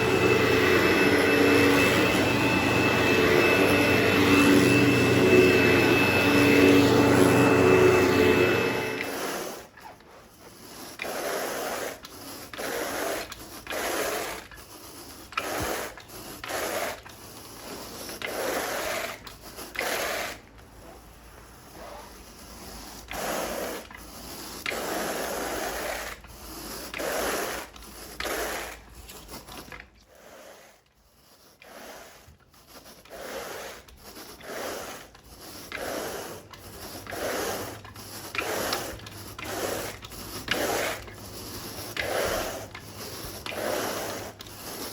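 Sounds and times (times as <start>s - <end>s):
carpet rake scraping carpet: 0.0s - 44.9s.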